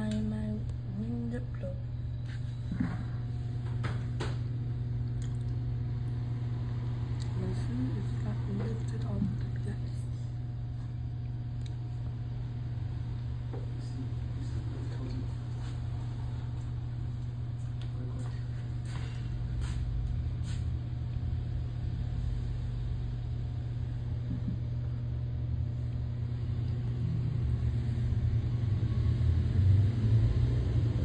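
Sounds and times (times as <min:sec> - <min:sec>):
aquarium pump humming: 0:00.0 - 0:31.0.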